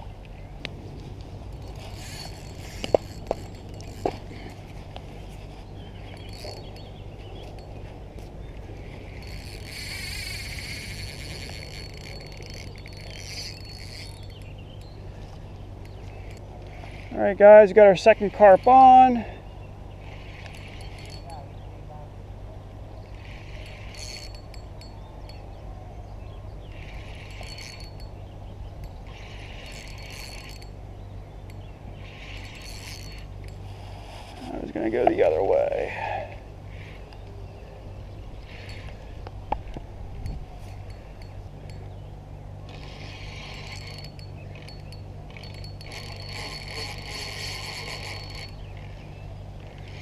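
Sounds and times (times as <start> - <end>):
fishing reel clicking: 1.4 - 7.9, 8.5 - 19.2, 20.0 - 21.5, 23.0 - 25.5, 26.7 - 30.8, 31.5 - 36.0, 36.7 - 37.4, 38.4 - 41.9, 42.7 - 49.0.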